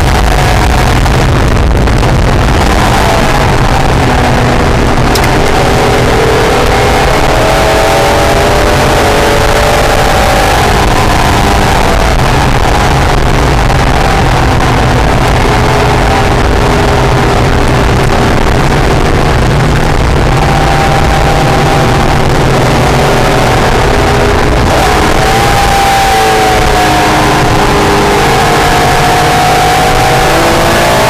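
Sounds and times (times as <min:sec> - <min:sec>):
car engine running hard: 0:00.0 - 0:31.0.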